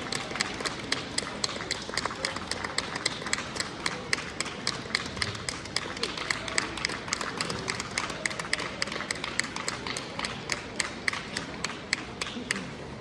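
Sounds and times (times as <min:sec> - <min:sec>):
rhythmic handclapping: 0:00.0 - 0:12.8.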